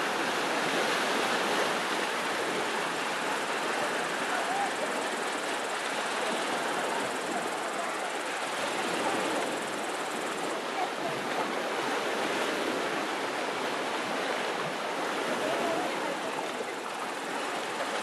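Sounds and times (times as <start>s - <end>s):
small sea waves washing: 0.0s - 18.0s.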